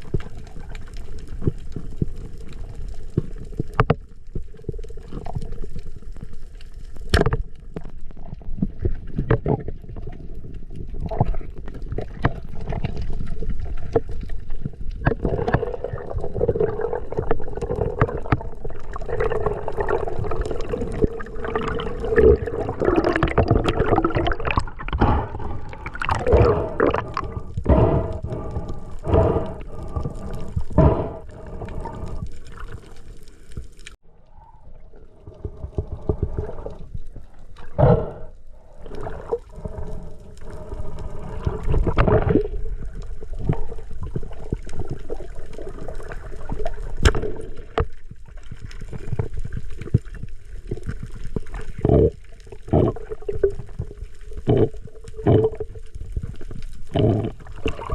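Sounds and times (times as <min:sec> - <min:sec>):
water sloshing and gurgling: 0:00.0 - 0:57.9
bubbles: 0:08.0 - 0:57.9.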